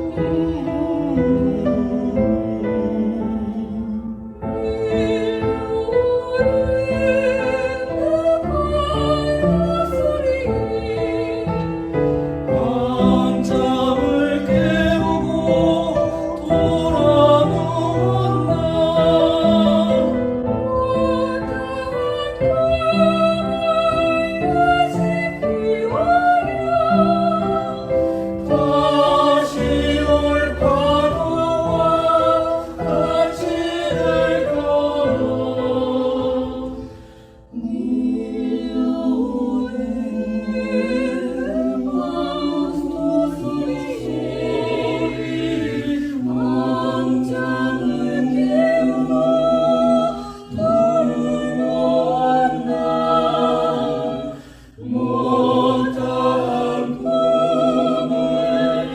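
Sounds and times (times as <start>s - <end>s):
piano accompaniment: 0.0s - 58.9s
vocal ensemble singing in harmony: 0.0s - 58.9s.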